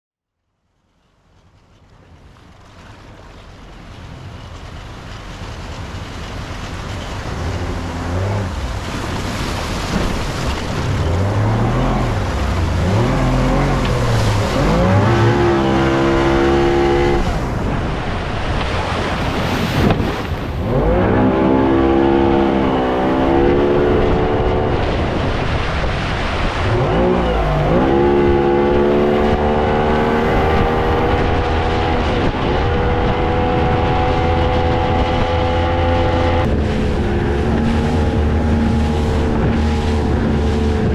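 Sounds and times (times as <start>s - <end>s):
wind: 0.2s - 40.9s
water rushing: 1.2s - 40.9s
outboard motor revving: 6.0s - 40.9s.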